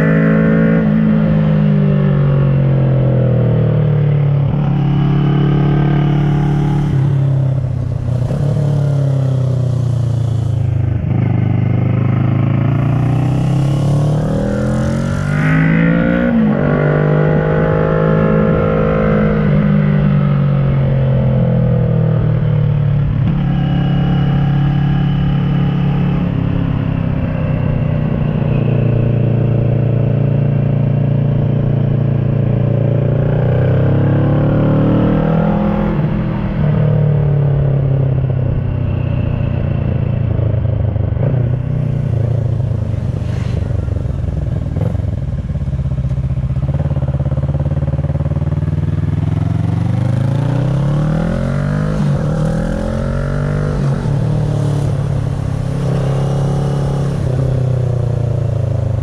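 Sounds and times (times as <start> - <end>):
motorcycle engine running: 0.7 - 34.8, 35.4 - 59.0.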